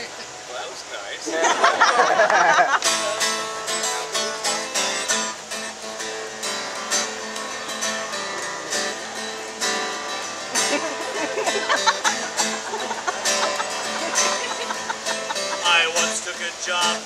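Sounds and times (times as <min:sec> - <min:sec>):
acoustic guitar strumming: 0:01.7 - 0:17.0.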